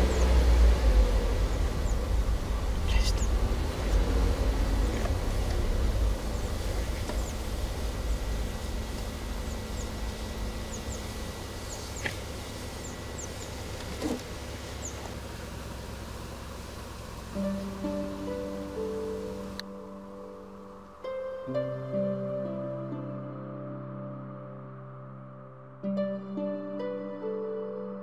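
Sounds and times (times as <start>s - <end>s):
car engine and tyres rumbling: 0.0s - 25.8s.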